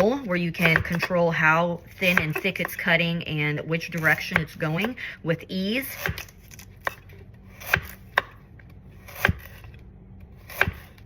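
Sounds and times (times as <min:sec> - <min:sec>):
knife chopping carrots: 0:00.0 - 0:03.2, 0:03.8 - 0:05.1, 0:05.7 - 0:11.0.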